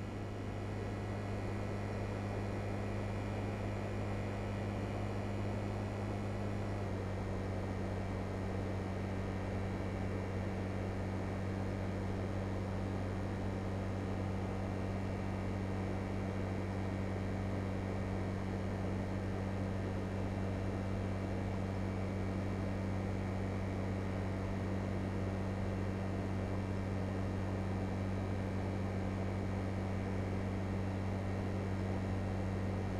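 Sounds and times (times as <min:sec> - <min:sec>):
air conditioning unit humming: 0:00.0 - 0:32.9.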